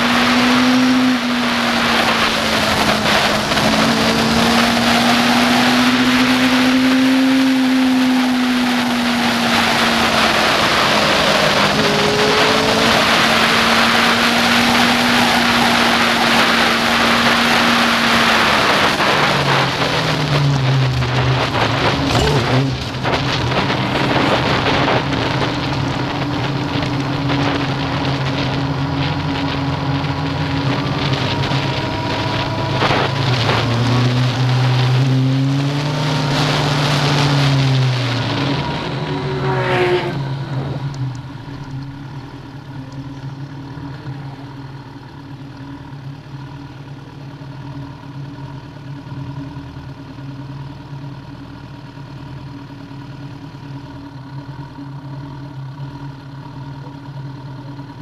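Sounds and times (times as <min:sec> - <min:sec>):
motorcycle engine revving: 0:00.0 - 0:50.3.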